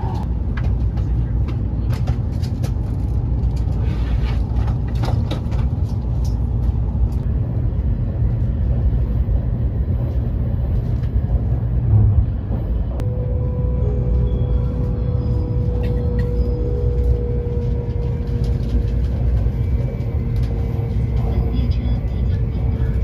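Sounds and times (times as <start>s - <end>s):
train running rumble: 0.0s - 23.0s.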